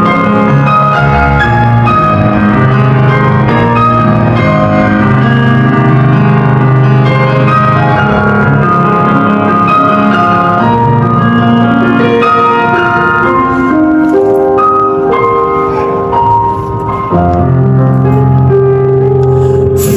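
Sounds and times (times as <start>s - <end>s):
live piano music: 0.0s - 19.9s.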